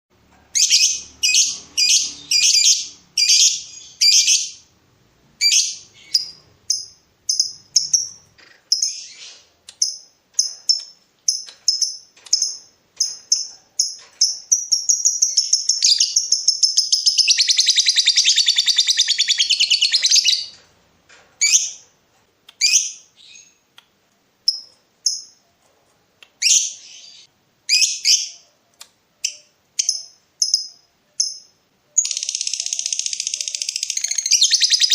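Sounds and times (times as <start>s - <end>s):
lovebird chirping and trilling: 0.5s - 4.6s, 5.4s - 20.6s, 21.4s - 21.8s, 22.6s - 23.6s, 26.4s - 28.5s, 29.2s - 34.9s.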